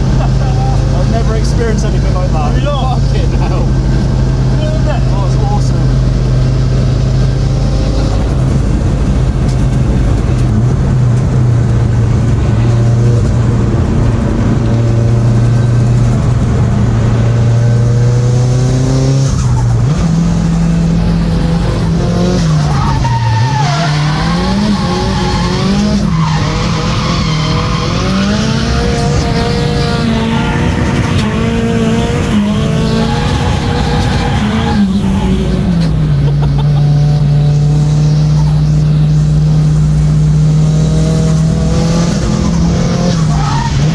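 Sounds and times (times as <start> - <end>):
car engine revving: 0.0 - 43.9
tyres skidding and squealing: 0.0 - 43.9.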